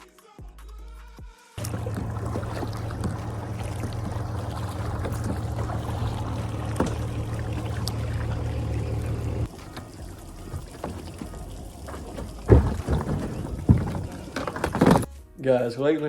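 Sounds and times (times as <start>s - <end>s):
steady low hum: 1.6s - 15.1s
water splashing around kayak: 1.6s - 15.1s.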